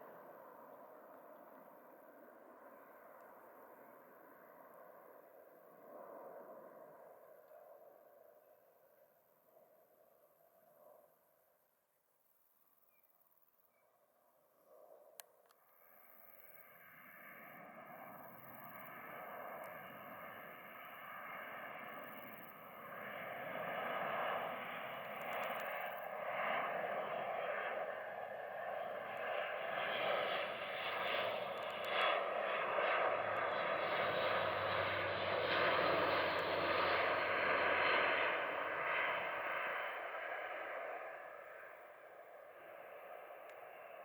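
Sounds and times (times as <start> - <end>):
turboprop aircraft drone: 0.0 - 44.0.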